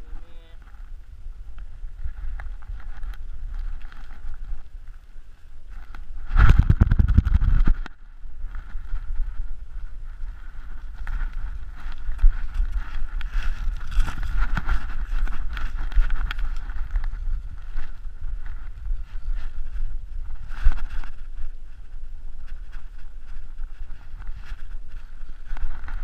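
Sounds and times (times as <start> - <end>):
camera rumbling and rubbing: 0.0 - 26.0
stiff grass crackling and rustling: 0.0 - 26.0.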